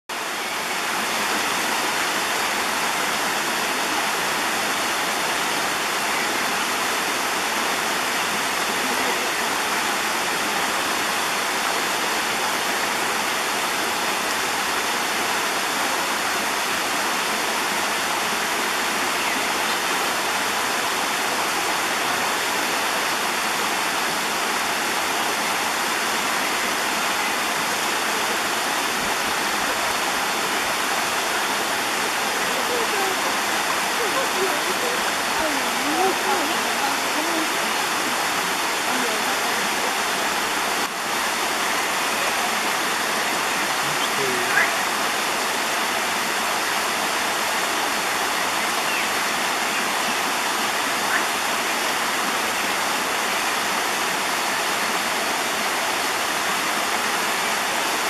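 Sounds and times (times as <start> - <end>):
shallow stream rushing: 0.1 - 58.0.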